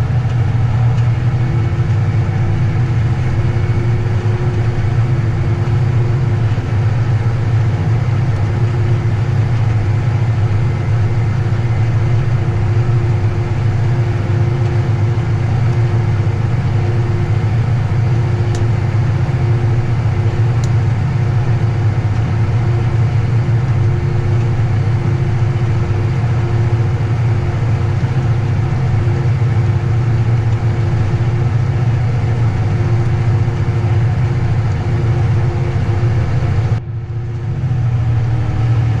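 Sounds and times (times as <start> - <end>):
faint steady hum: 0.0 - 39.0
vehicle engine droning: 0.0 - 39.0.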